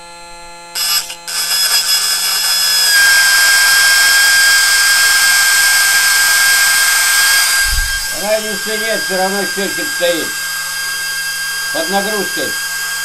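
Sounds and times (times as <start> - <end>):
small motor whining: 0.0 - 13.0.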